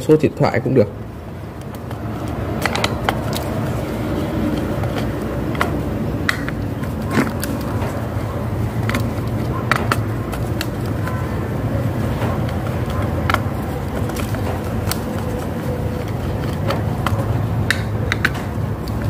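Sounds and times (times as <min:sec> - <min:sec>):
clicks and knocks of parts: 0:01.3 - 0:19.0.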